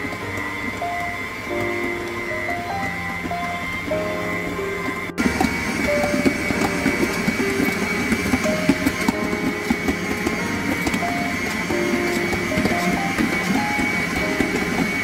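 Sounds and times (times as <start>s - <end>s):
background music melody: 0.0s - 15.0s
stand mixer motor whine: 0.0s - 15.0s.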